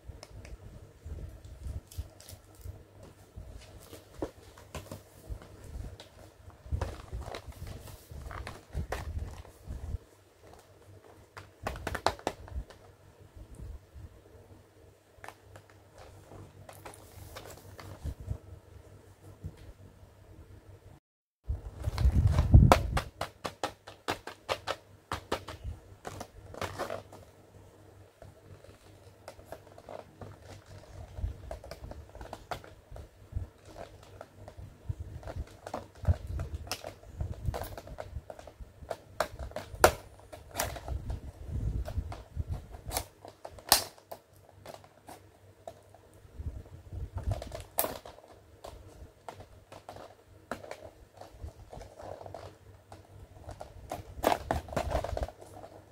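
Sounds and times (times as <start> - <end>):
plastic blister pack crackling: 0.2 - 13.0, 15.2 - 18.2, 21.7 - 27.3, 28.5 - 46.2, 46.9 - 55.9.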